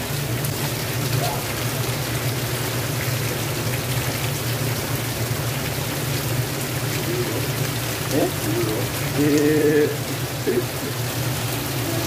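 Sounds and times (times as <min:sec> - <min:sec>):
heavy rain on plastic lid: 0:00.0 - 0:12.0.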